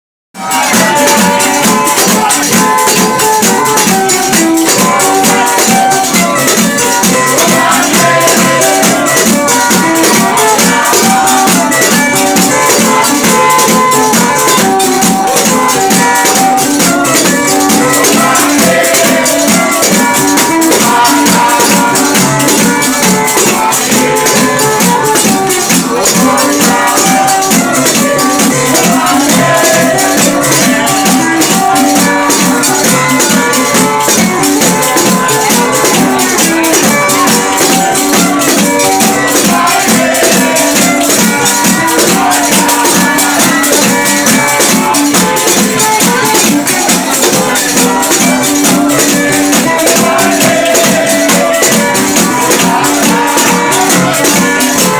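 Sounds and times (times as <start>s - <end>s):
samba percussion rattling: 0.3s - 54.9s.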